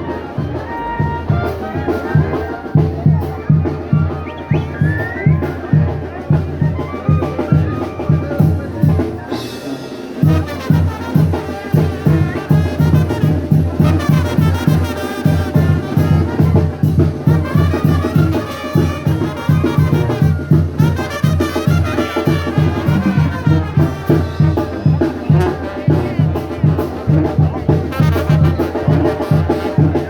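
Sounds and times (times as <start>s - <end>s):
brass melody: 0.0s - 5.8s, 8.8s - 27.2s, 27.8s - 30.0s
quick drum beat: 0.4s - 30.0s.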